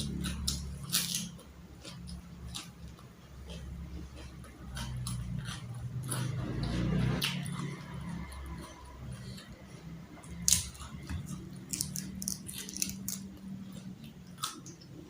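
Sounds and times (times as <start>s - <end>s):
eating clicks and crunches: 0.0s - 15.0s
low steady hum: 0.0s - 15.0s.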